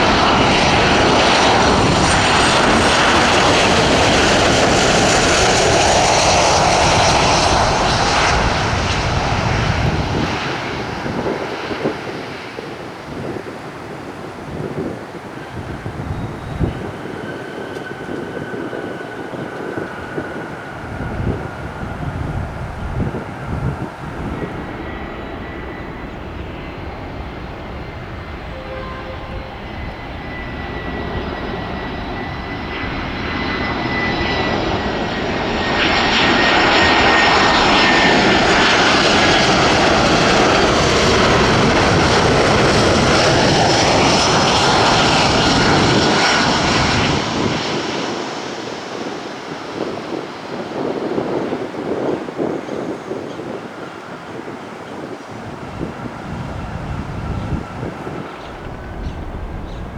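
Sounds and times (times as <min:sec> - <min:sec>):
jet engines passing by: 0:00.0 - 0:59.9.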